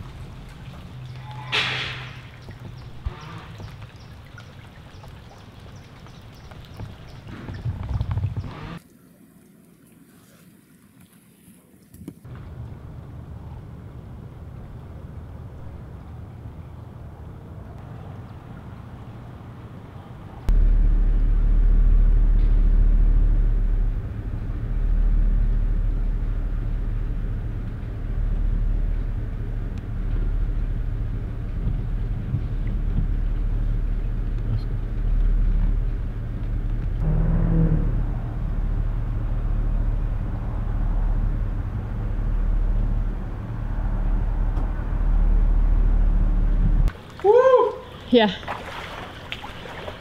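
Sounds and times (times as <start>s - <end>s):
engine running with low rumble: 0.0s - 8.8s, 12.2s - 47.0s.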